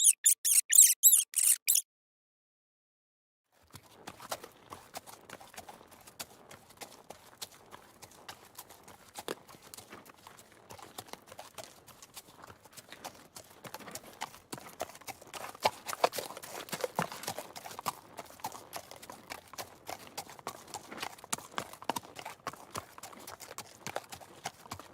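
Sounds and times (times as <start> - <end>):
horse hooves clip-clopping: 3.6 - 24.9.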